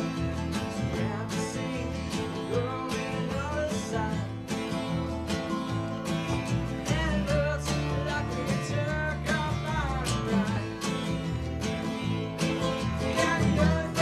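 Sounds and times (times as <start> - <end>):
guitar-led music with drum beat: 0.0 - 14.0.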